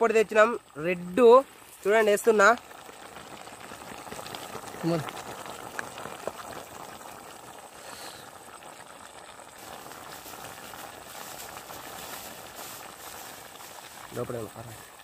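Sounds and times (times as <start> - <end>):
pot sizzling and bubbling: 0.0 - 15.0
small fire crackles: 0.0 - 15.0.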